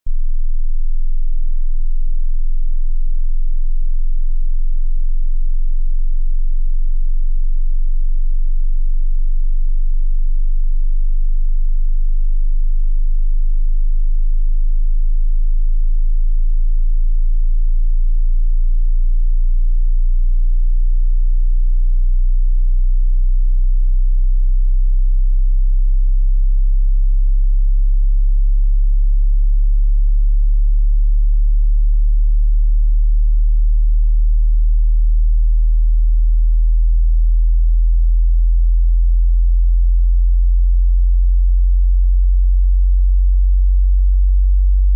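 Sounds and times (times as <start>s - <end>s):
low-pitched sine tone: 0.0s - 44.9s.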